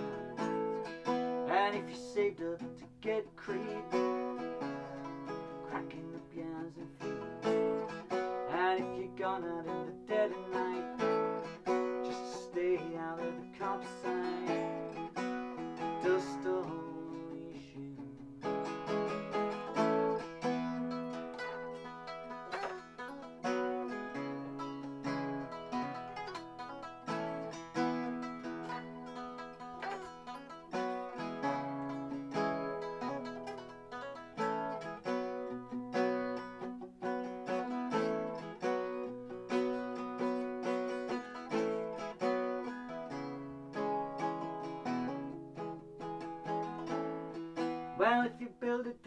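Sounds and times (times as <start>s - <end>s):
picked acoustic guitar: 0.0s - 49.0s.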